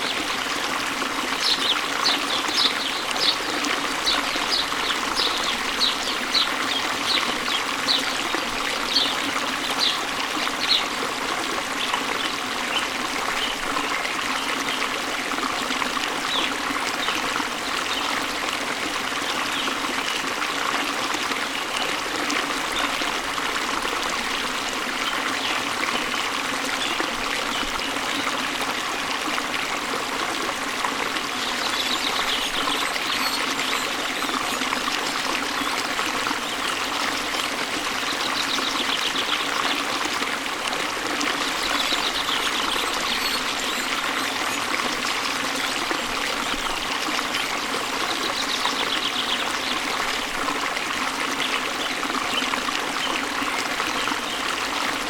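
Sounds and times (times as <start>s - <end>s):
waterfall rushing into stream: 0.0s - 55.0s.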